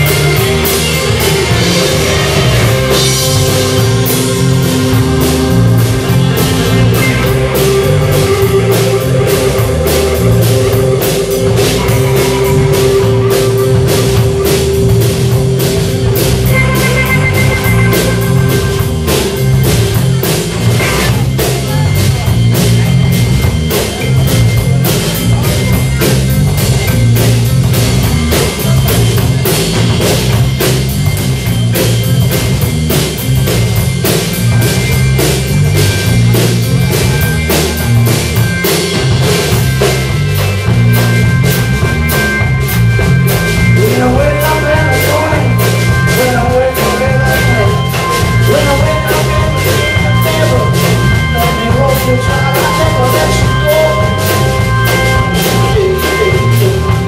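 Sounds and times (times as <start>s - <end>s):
drum kit steady beat: 0.0s - 57.0s
electric guitar: 0.0s - 57.0s.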